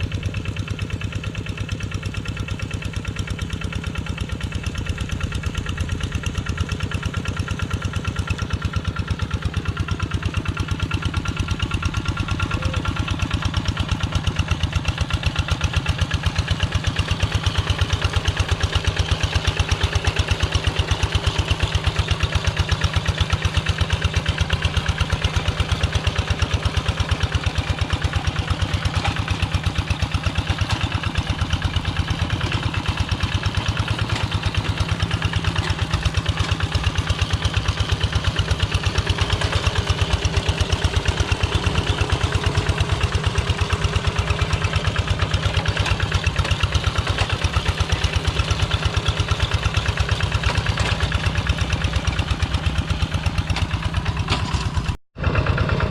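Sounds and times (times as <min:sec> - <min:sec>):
diesel engine thudding: 0:03.9 - 0:55.9.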